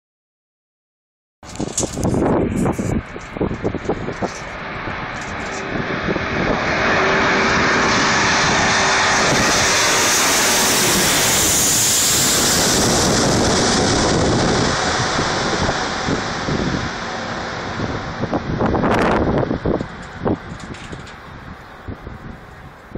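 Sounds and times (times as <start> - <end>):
jet airliner flying overhead: 1.5 - 22.9
steady engine tone: 2.0 - 22.9.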